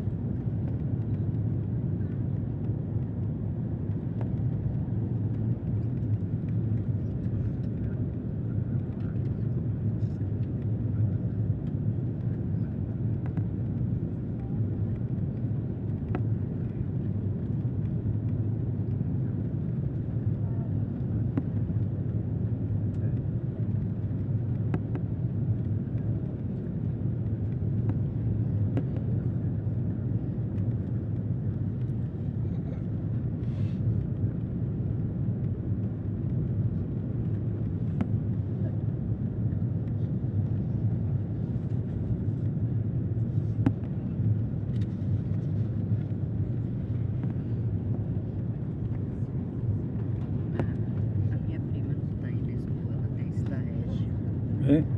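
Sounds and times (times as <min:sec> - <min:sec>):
airliner cabin engine rumble: 0:00.0 - 0:54.9.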